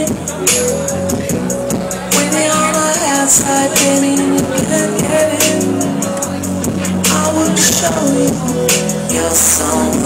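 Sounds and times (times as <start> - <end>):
pop music with crisp percussion: 0.0 - 10.0.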